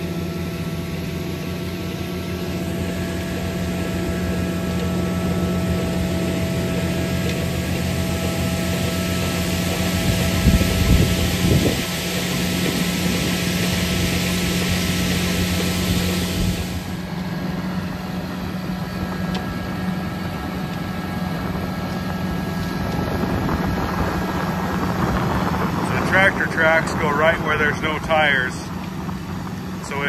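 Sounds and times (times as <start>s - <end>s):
low buffeting: 0.0s - 30.0s
tractor pulling a seed drill: 0.0s - 30.0s.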